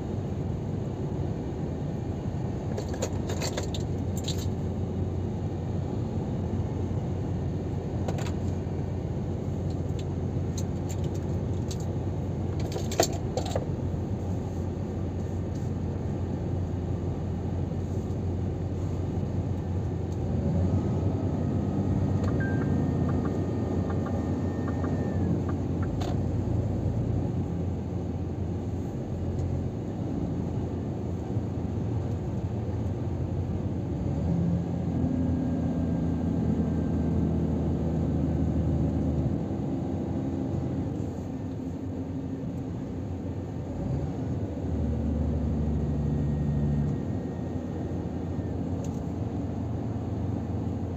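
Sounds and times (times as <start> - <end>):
truck engine and road drone: 0.0 - 50.9.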